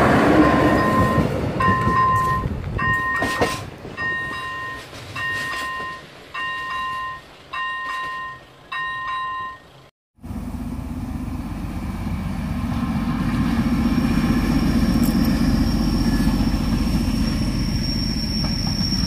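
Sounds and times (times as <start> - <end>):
train wheels on rails: 0.0 - 9.9, 11.2 - 19.0.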